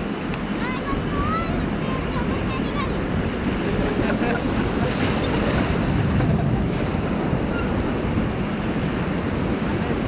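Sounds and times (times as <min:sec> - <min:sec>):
whitewater rushing: 0:00.0 - 0:10.0
wind buffeting microphone: 0:00.0 - 0:10.0.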